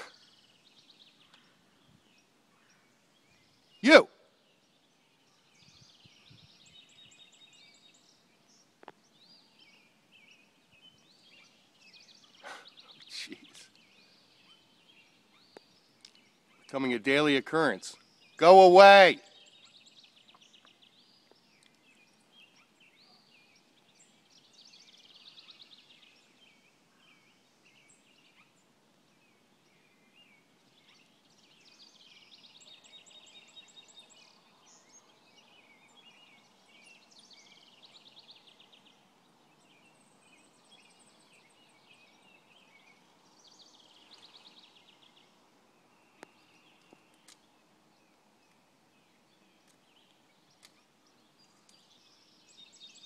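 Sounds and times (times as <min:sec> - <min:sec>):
outdoor background hiss: 0:00.0 - 0:53.0
songbirds trilling and chirping: 0:00.0 - 0:53.0.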